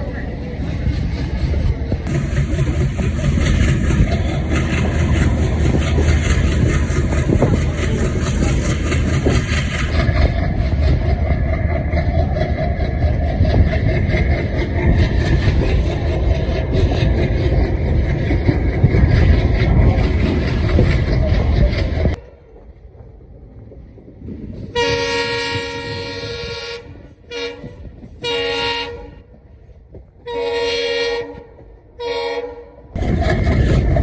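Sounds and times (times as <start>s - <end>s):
diesel locomotive engine rumbling: 0.0s - 34.0s.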